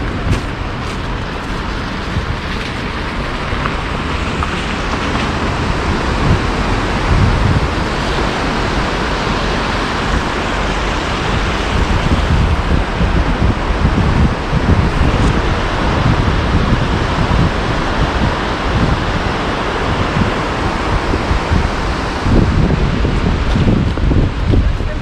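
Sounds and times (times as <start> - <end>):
city traffic noise: 0.0 - 25.0
wind buffeting microphone: 0.0 - 25.0.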